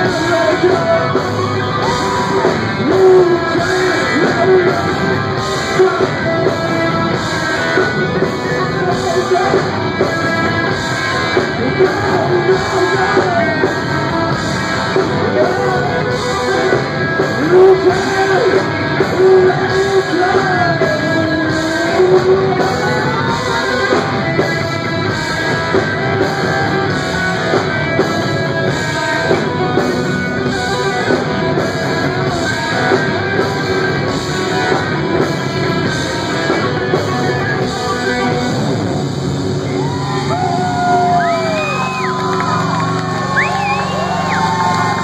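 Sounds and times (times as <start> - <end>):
man singing: 0.0 - 38.6
electric guitar and drums: 0.0 - 45.0.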